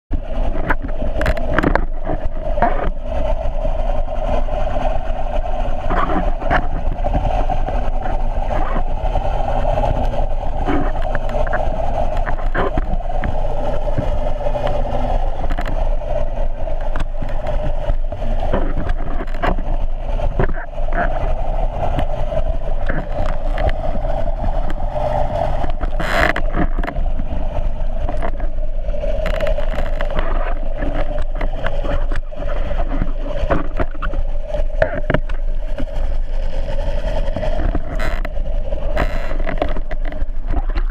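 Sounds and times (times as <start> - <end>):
boat engine drone underwater: 0.1 - 40.9
underwater water rushing: 0.1 - 40.9.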